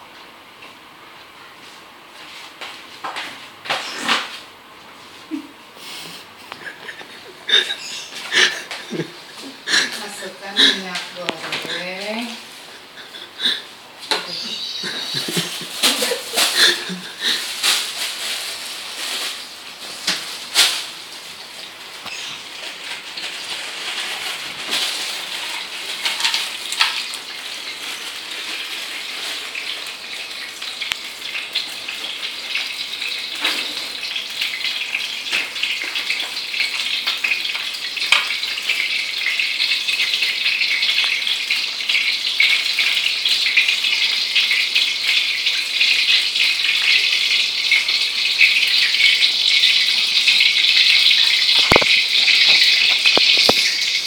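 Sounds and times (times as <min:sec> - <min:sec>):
oil sizzling in pan: 0:05.3 - 0:54.0.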